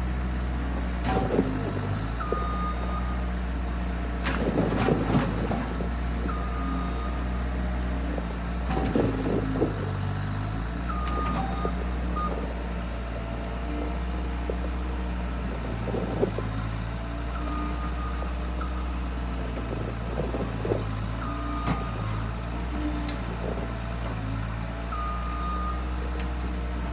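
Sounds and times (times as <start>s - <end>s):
skid loader engine running: 0.0s - 26.9s.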